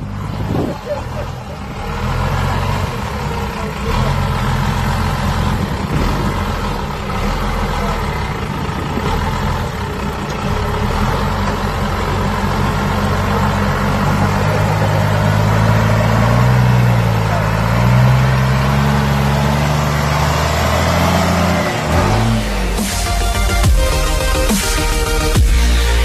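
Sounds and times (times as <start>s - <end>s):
pickup engine running at low revs: 0.0s - 26.0s.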